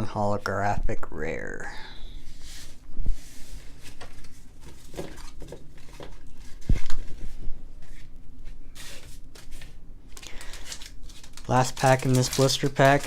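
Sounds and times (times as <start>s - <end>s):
cards and packaging rustling: 2.4s - 13.0s.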